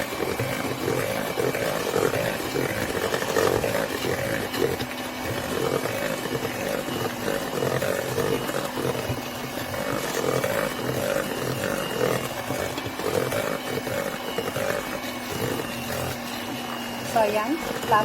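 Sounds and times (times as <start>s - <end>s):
electric mixer running: 0.0s - 18.0s.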